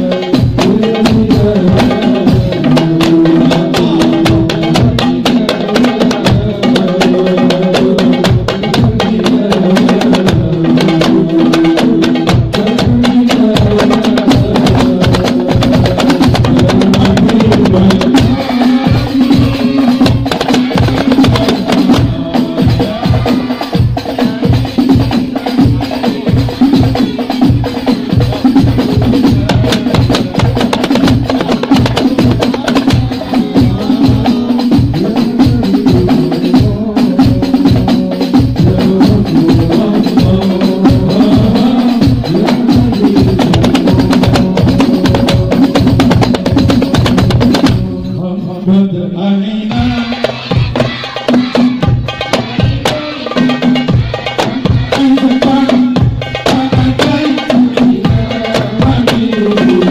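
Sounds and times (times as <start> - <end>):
frame drums playing fast rhythm: 0.0 - 48.2, 49.6 - 59.9
voices singing melody: 0.0 - 59.9.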